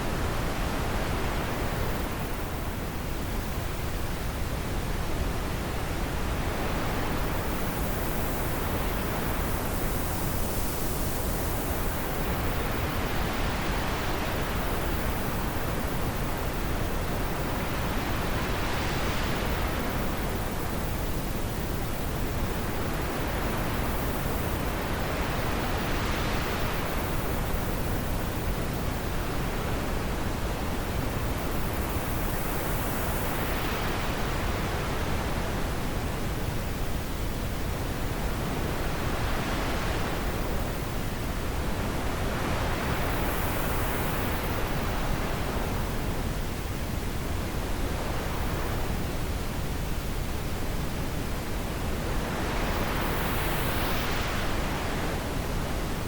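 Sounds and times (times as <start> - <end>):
wind blowing in gusts: 0.0 - 56.0.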